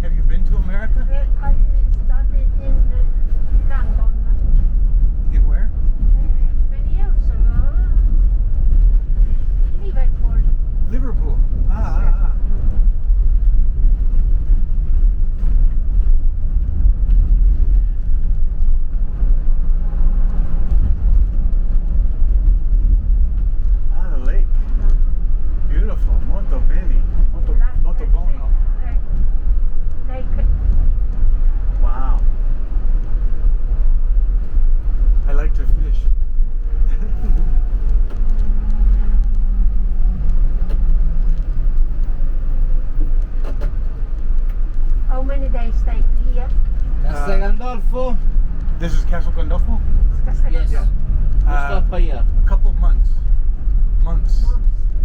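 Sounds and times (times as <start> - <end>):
loud low rumble: 0.0 - 55.0.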